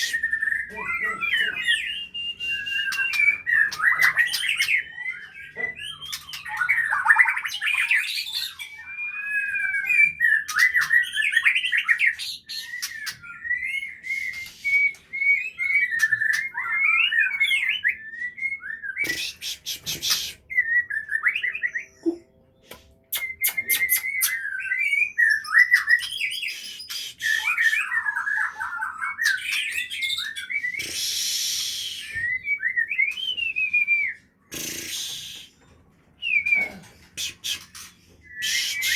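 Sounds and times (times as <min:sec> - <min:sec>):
bird singing whistled phrases: 0:00.0 - 0:22.2, 0:23.1 - 0:35.6, 0:36.2 - 0:38.9.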